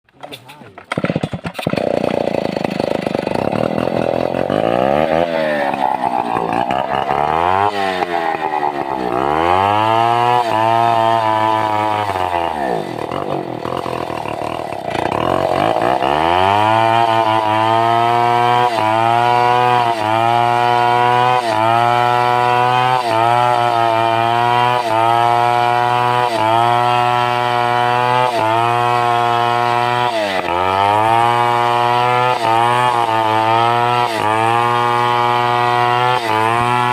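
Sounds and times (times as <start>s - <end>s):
chainsaw cutting timber: 0.1s - 36.9s.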